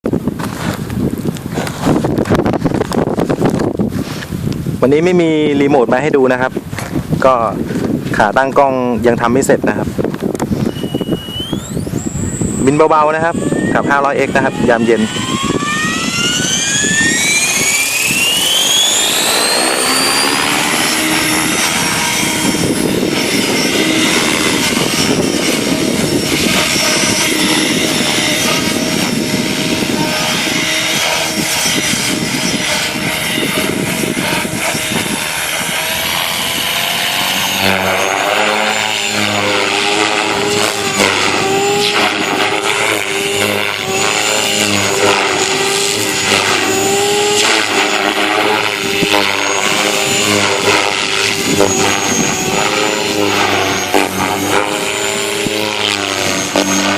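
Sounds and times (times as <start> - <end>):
rc helicopter motor and rotor whine: 0.1 - 56.9.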